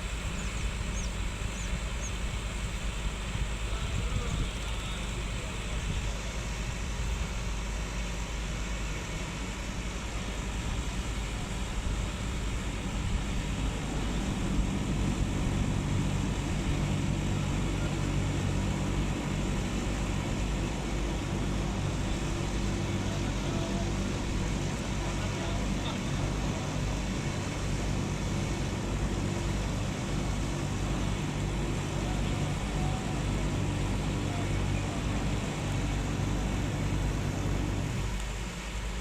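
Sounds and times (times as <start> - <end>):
ship diesel engine droning: 0.0 - 39.0.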